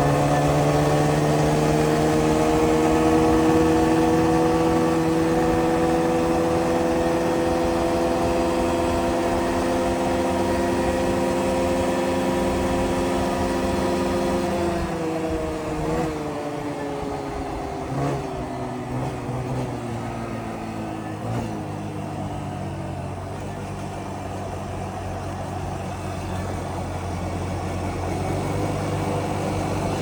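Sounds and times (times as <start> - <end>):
atv engine with throttle blips: 0.0 - 30.0.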